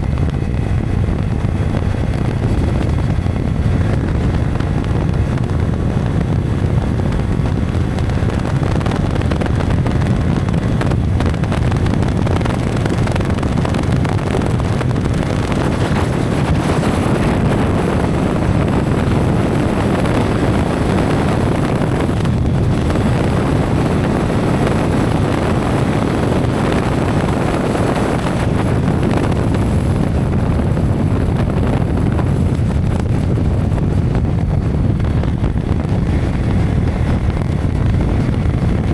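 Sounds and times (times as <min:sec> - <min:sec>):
motorcycle riding noise: 0:00.0 - 0:38.9
wind buffeting microphone: 0:00.0 - 0:38.9.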